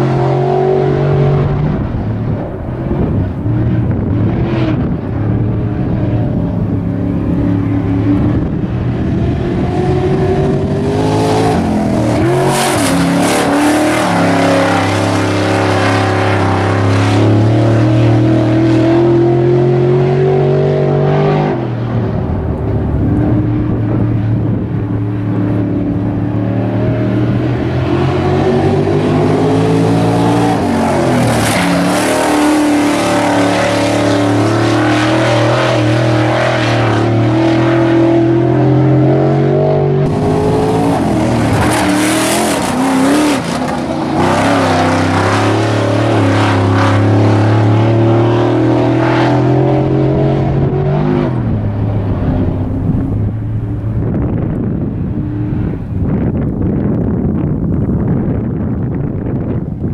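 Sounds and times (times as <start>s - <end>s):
race car engine revving: 0.0s - 59.6s.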